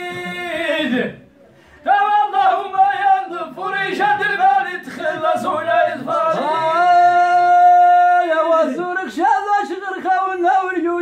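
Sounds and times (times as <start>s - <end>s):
man singing: 0.0s - 1.2s, 1.8s - 11.0s.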